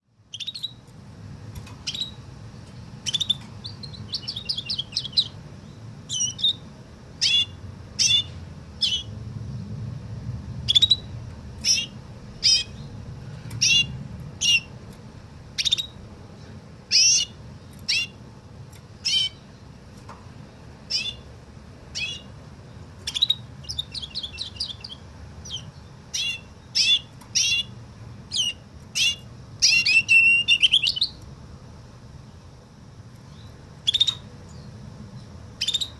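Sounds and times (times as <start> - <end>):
low steady hum: 0.0 - 35.9
canary singing: 0.3 - 9.2, 10.6 - 16.1, 16.8 - 20.1, 20.7 - 31.3, 33.1 - 35.9.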